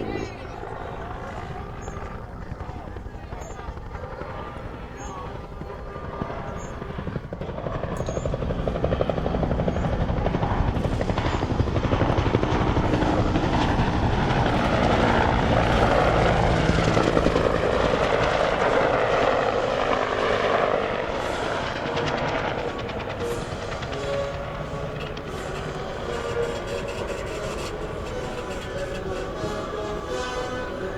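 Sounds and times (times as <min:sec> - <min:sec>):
helicopter flying past: 0:00.0 - 0:30.9.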